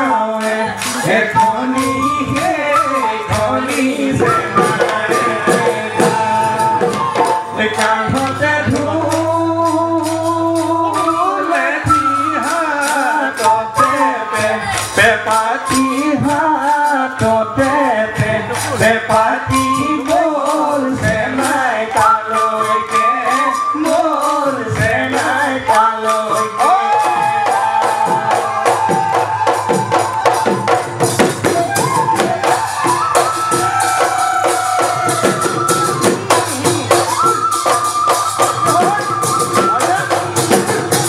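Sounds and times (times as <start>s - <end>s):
dhol drums beating fast rhythm: 0.0s - 41.0s
high sliding melody line: 0.0s - 41.0s.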